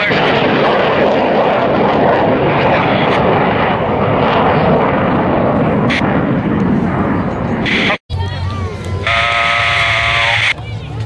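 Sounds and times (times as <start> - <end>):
jet engines passing overhead: 0.0 - 11.0.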